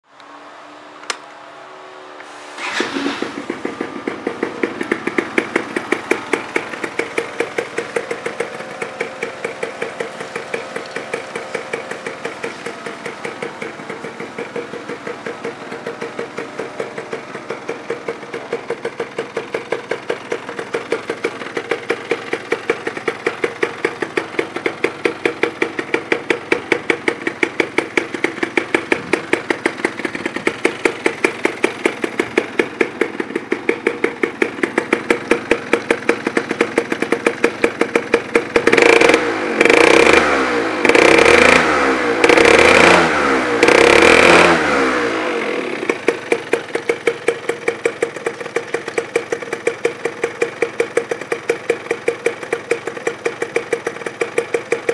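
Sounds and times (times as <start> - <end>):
scooter engine idling: 0.1 - 54.9
scooter engine cranking and starting: 0.3 - 1.5, 2.2 - 54.9.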